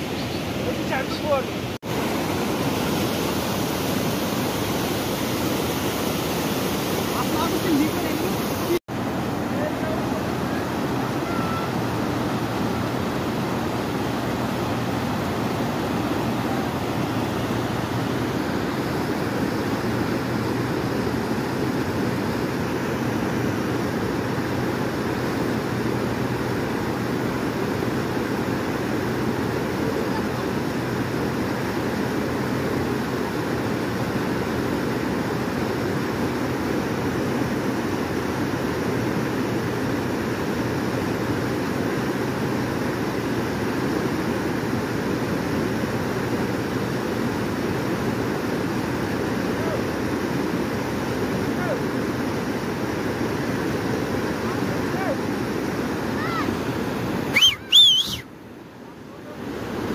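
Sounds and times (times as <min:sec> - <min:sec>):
river rapids rushing: 0:00.0 - 0:59.9.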